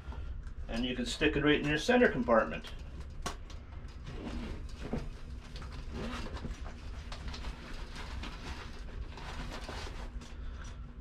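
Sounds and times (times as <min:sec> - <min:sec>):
faint low hums: 0:00.0 - 0:11.0.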